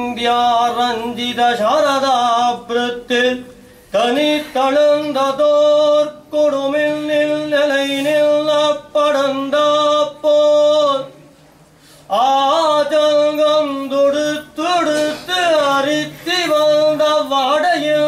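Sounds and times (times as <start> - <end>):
man chanting: 0.0 - 11.2, 12.1 - 18.0.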